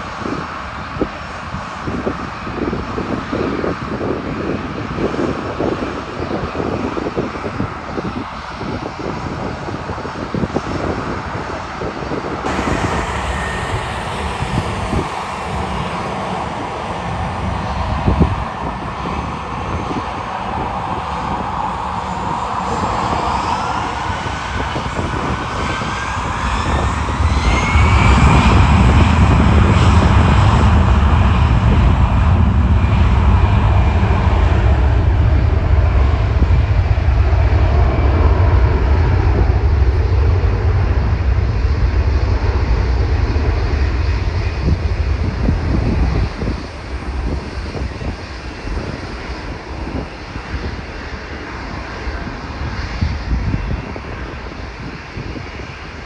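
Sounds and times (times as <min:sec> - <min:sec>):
jet engine rumble: 0:00.0 - 0:56.0
jet engines spooling up: 0:10.5 - 0:56.0.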